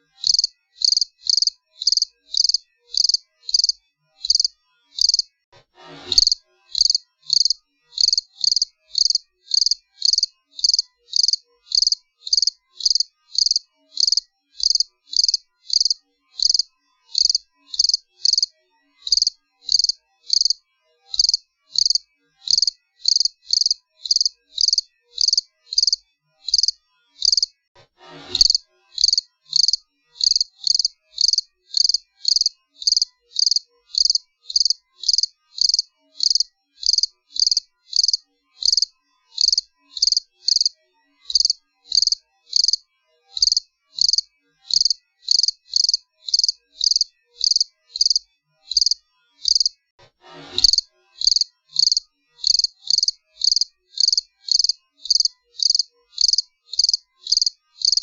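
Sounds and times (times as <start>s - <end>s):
cricket chirping: 0.2s - 5.3s, 6.2s - 18.5s, 19.1s - 20.6s, 21.2s - 27.5s, 28.4s - 40.7s, 41.3s - 42.8s, 43.4s - 49.7s, 50.6s - 58.0s.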